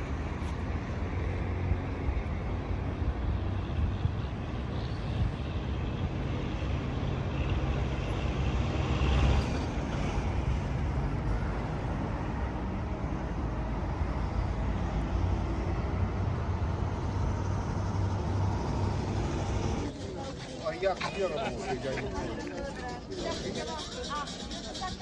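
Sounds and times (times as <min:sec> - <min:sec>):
large engine rumbling: 0:00.0 - 0:25.0.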